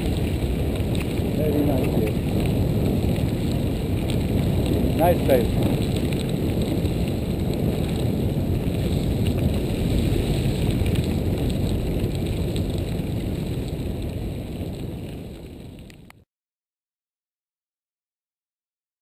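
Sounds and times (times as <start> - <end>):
bike tyre noise: 0.0 - 16.2
wind rumble: 0.0 - 16.2.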